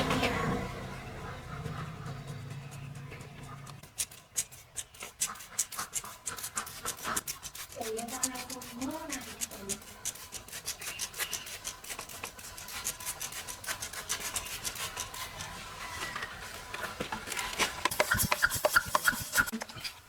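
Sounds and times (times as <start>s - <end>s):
scrubbing strokes on car surface: 2.3s - 19.6s.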